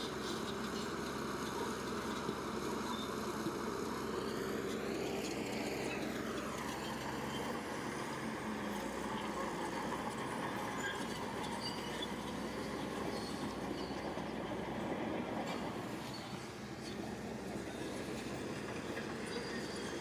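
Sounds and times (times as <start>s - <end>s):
heavy machine diesel engine: 0.0s - 20.0s.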